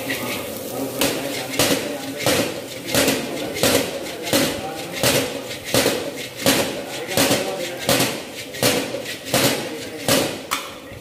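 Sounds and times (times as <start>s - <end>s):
metal ladle scraping wok: 0.0s - 10.2s.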